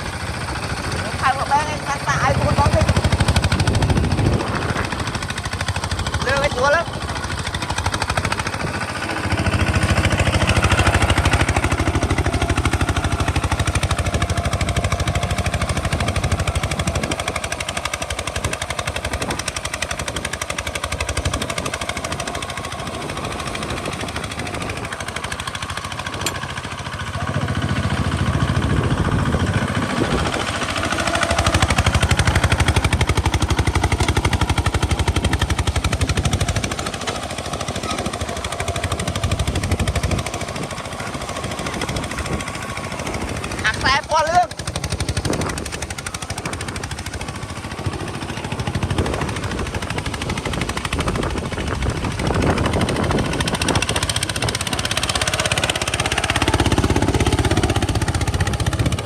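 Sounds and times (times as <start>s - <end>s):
diesel tractor engine chugging: 0.0s - 59.0s.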